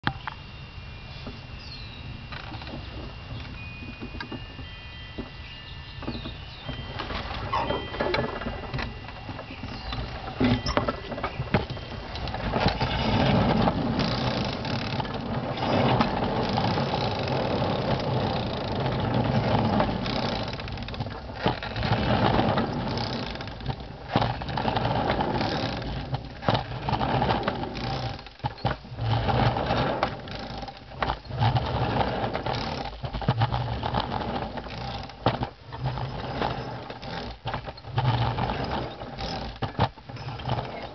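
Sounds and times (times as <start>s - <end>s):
steel wheels rolling on rails: 1.2s - 40.9s
clicks and knocks from wheels: 6.0s - 40.9s.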